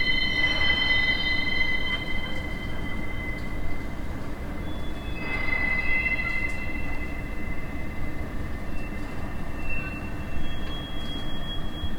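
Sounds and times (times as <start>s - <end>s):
rail wheels squealing: 0.0s - 11.9s.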